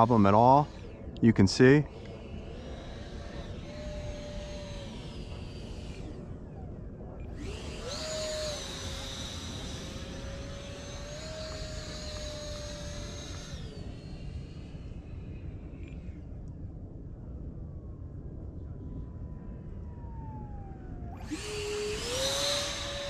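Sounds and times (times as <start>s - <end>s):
electric motor whining overhead: 0.0s - 23.0s
wind on microphone: 0.0s - 23.0s.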